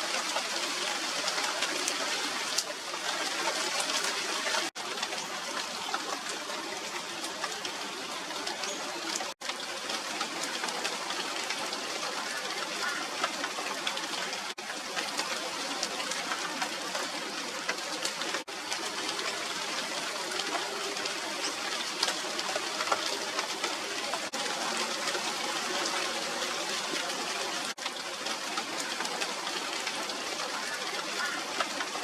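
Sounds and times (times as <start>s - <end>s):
rain hissing on leaves: 0.0s - 32.0s
raindrops ticking: 0.0s - 32.0s.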